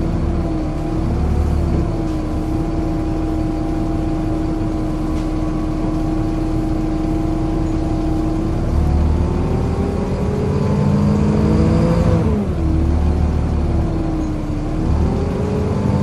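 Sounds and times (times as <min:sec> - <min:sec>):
diesel bus engine rumbling: 0:00.0 - 0:16.0.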